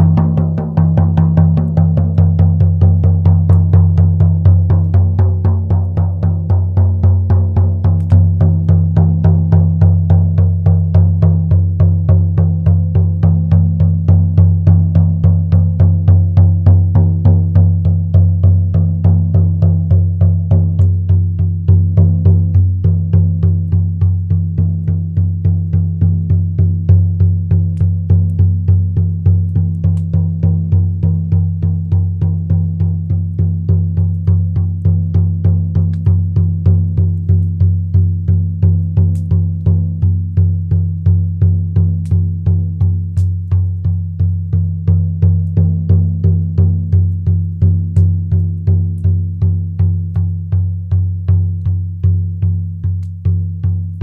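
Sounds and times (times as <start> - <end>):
frame drum beating: 0.0 - 54.0.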